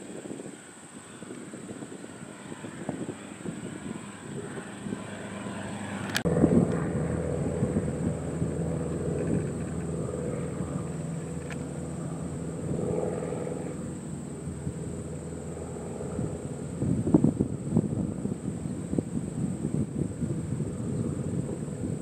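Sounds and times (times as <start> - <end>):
propeller airplane droning: 0.0 - 22.0
wind buffeting microphone: 0.0 - 22.0.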